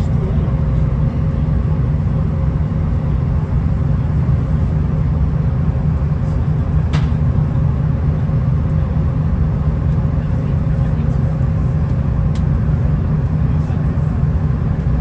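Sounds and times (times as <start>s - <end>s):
train engine and wheels drone: 0.0s - 15.0s.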